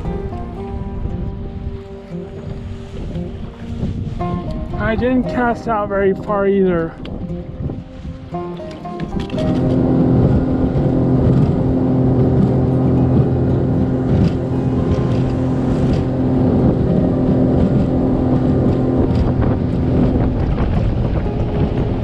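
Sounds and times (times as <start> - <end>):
outboard motor running: 0.0 - 22.0
wind noise on microphone: 0.0 - 22.0.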